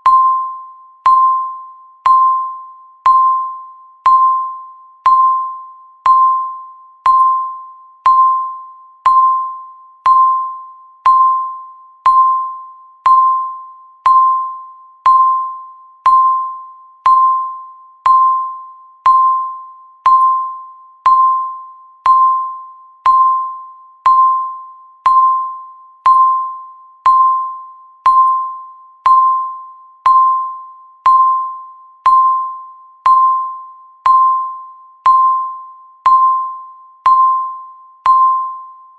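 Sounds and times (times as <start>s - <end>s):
timer ticking pings: 0.0s - 38.9s.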